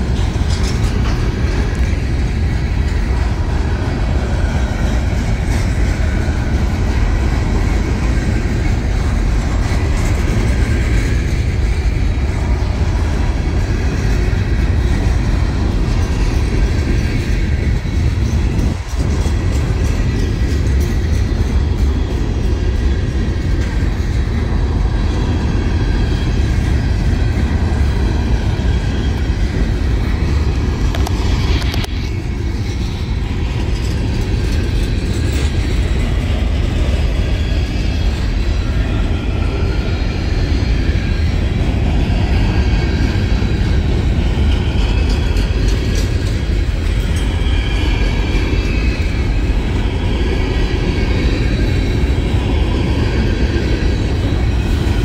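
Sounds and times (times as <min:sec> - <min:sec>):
steel wheels rumbling on rail: 0:00.0 - 0:55.0
wheels clacking over rail joints: 0:00.0 - 0:55.0.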